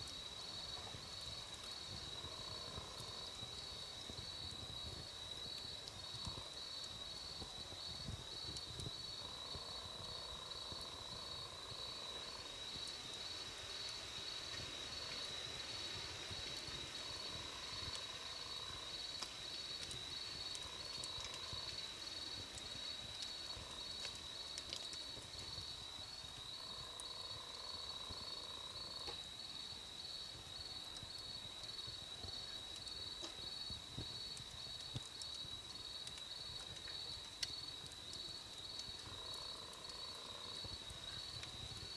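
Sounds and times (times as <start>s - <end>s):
campfire crackling: 0.0s - 41.9s
lower insect trill: 0.0s - 41.9s.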